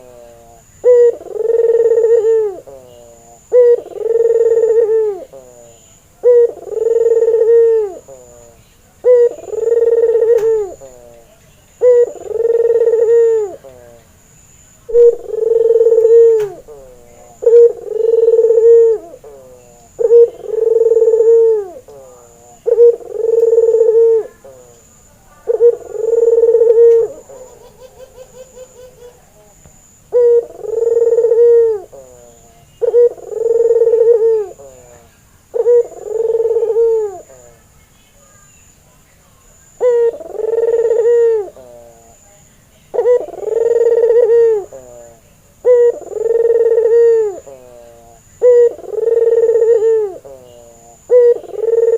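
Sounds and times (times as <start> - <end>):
dove cooing: 0.0 - 14.1, 14.9 - 37.7, 39.6 - 51.9.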